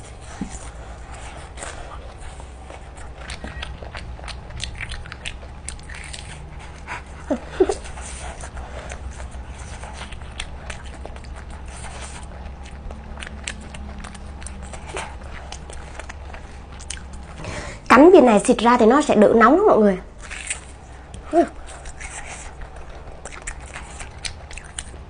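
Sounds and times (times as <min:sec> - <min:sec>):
chewing and crunching mouth sounds: 0:00.0 - 0:19.3, 0:20.1 - 0:25.0.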